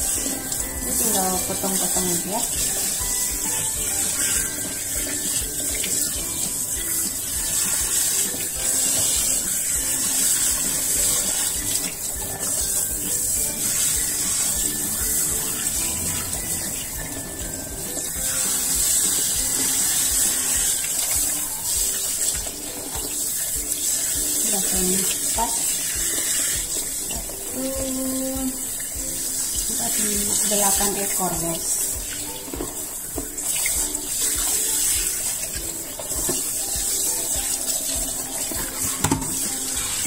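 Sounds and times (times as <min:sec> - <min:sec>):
tap running into sink: 0:00.0 - 0:40.0.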